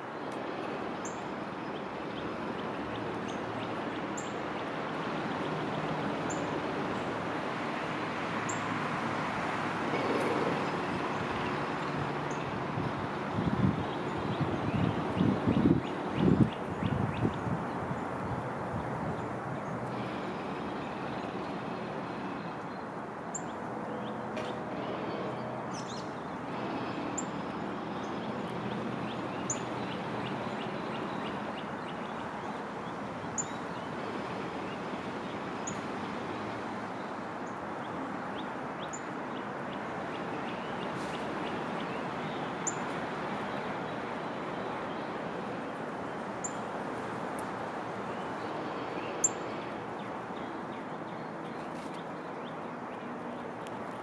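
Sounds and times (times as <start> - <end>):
rushing outdoor background noise: 0.0 - 54.0.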